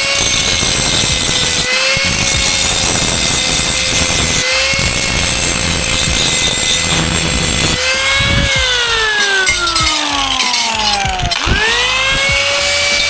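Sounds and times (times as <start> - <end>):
angle grinder on steel: 0.0 - 13.0.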